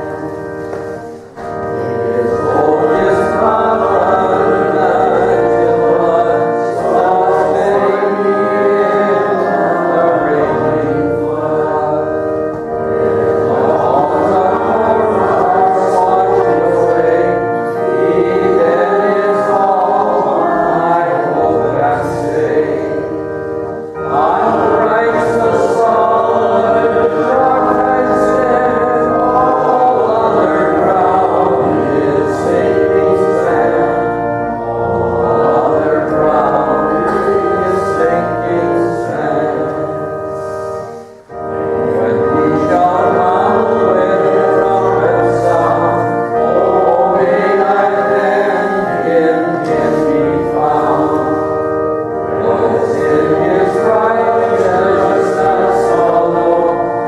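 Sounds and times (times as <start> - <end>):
congregation singing a hymn: 0.0 - 57.0
instrumental accompaniment: 0.0 - 57.0.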